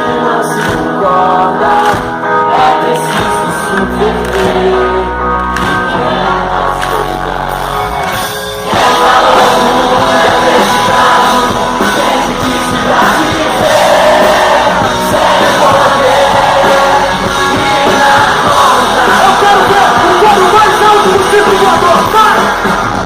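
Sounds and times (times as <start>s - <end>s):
voices singing and shouting: 0.0s - 22.8s
live rock band playing loudly: 0.0s - 23.0s.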